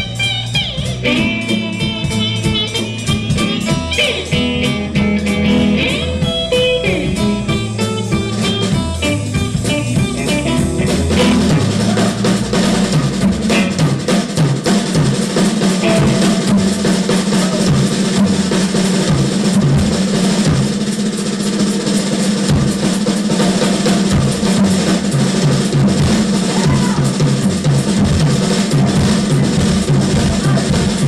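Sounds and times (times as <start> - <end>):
electric guitar: 0.0 - 21.0, 22.5 - 31.0
drum kit: 0.0 - 31.0.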